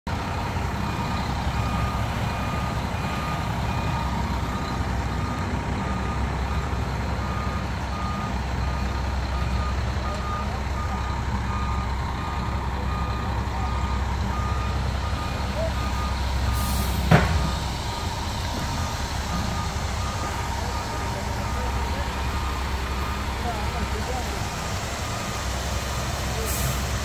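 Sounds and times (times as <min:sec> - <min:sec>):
truck engine running: 0:00.1 - 0:27.0
backup alarm beeping: 0:00.8 - 0:26.7.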